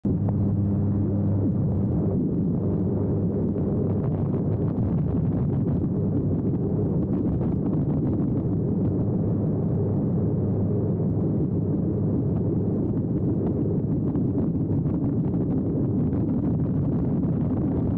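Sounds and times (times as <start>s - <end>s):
aircraft engine and propeller drone: 0.0s - 17.9s
wind rushing over microphone: 0.0s - 17.9s.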